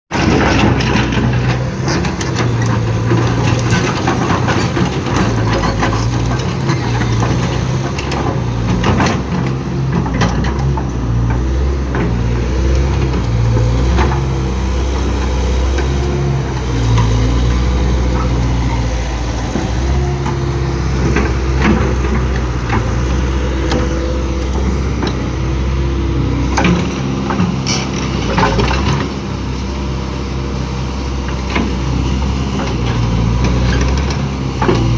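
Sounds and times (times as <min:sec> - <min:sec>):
heavy machine engine running: 0:00.1 - 0:34.9.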